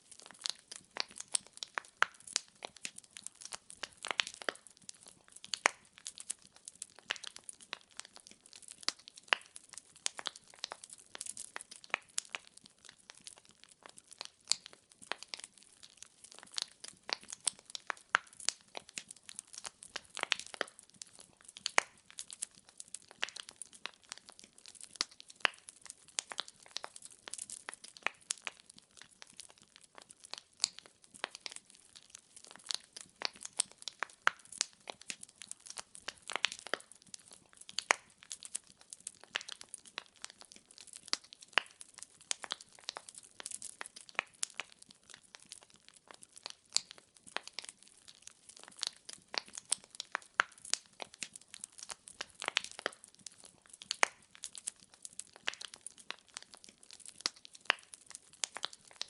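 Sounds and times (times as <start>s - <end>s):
faint steady hiss: 0.0s - 59.0s
logs crackling and popping: 0.0s - 59.0s.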